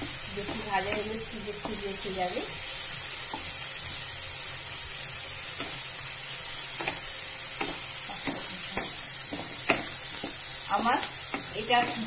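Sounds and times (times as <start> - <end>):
prawns sizzling in butter: 0.0 - 12.0.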